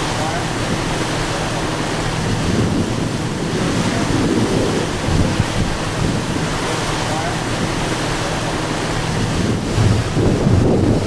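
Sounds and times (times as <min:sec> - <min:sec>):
sea rushing: 0:00.0 - 0:11.0
ship engine hum: 0:00.0 - 0:11.0
wind buffeting microphone: 0:00.0 - 0:11.0.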